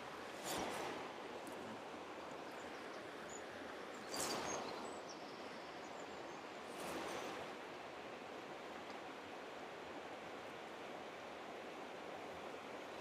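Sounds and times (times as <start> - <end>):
river flowing over stones: 0.0 - 13.0
rustle: 0.0 - 13.0.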